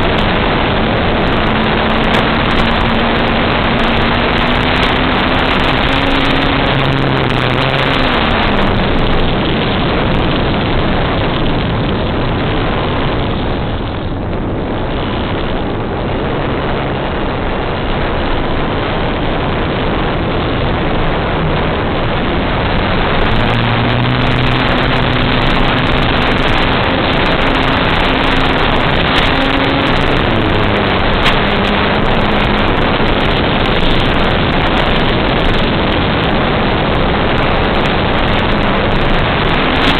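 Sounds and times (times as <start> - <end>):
audio feed hiss: 0.0 - 39.9
motor and propeller hum: 0.0 - 39.9
static crackles: 0.0 - 39.9.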